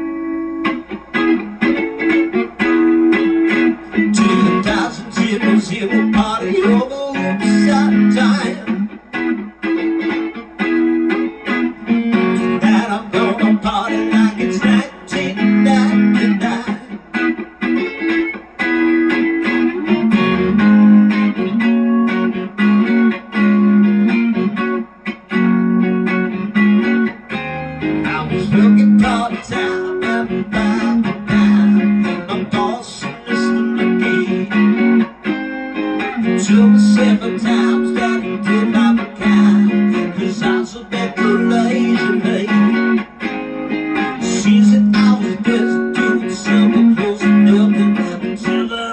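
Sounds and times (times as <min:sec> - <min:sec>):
electric guitar playing: 0:00.0 - 0:48.9.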